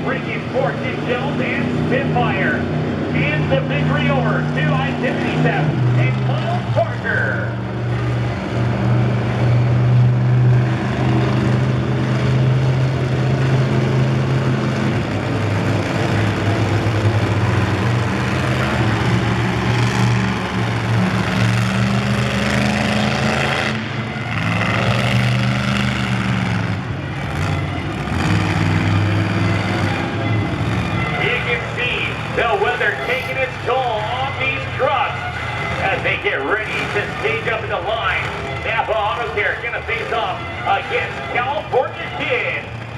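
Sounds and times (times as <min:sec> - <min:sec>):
truck engines idling: 0:00.0 - 0:42.9.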